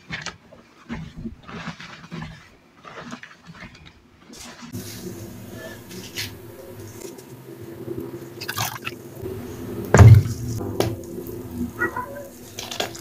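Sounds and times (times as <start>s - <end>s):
wet squishes and crackles: 0.0s - 13.0s.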